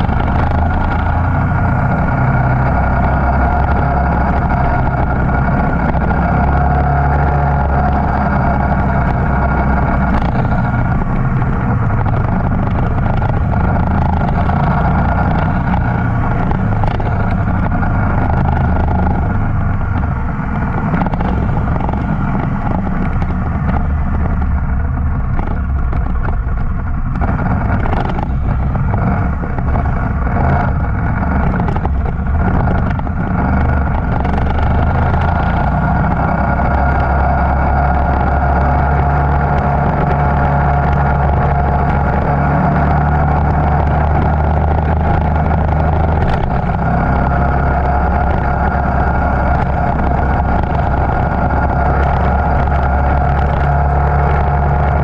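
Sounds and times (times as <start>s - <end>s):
motorcycle engine droning: 0.0s - 55.0s.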